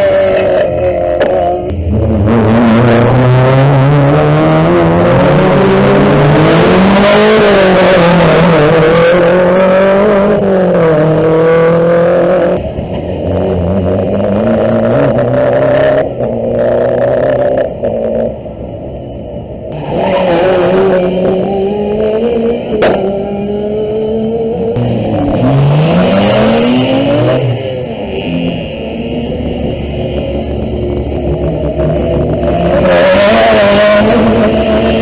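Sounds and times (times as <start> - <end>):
rally car engine at high revs: 0.0 - 18.3, 19.7 - 35.0.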